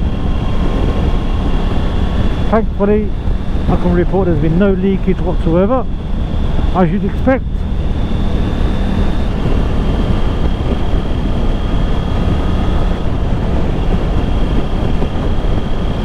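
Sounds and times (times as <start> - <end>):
faint high whine: 0.0 - 16.0
motorcycle engine and road noise: 0.0 - 16.0
wind rush: 0.0 - 16.0.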